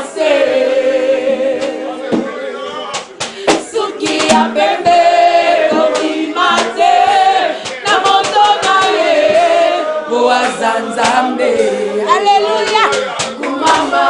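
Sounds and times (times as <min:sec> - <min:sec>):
women singing together: 0:00.0 - 0:14.0.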